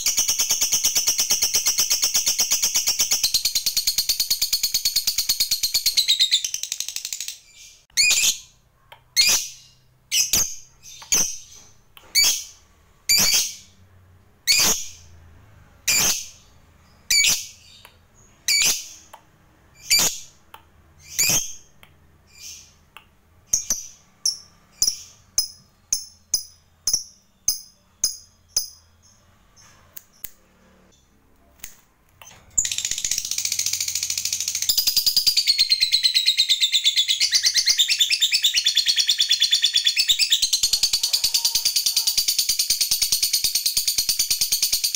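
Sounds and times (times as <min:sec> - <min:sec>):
lovebird chirping and trilling: 0:00.0 - 0:13.8, 0:14.4 - 0:15.2, 0:15.8 - 0:30.3, 0:32.2 - 0:44.9.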